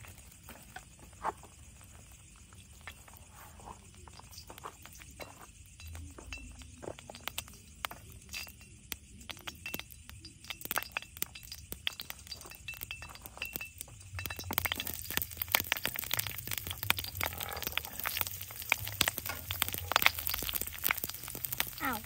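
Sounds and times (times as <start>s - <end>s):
food crackling in hot oil: 1.6s - 22.0s.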